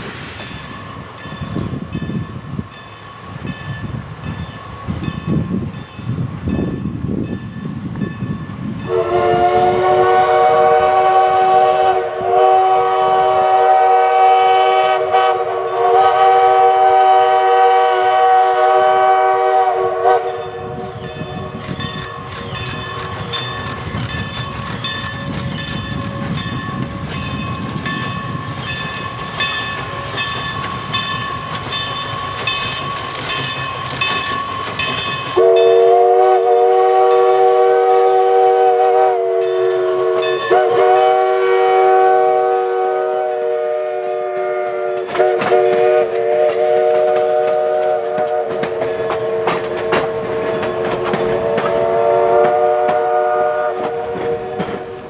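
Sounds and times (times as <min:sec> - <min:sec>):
chime steam whistle blasts: 0:00.0 - 0:01.7, 0:08.8 - 0:23.6, 0:25.6 - 0:55.0
steam locomotive exhaust chuffs: 0:00.0 - 0:55.0.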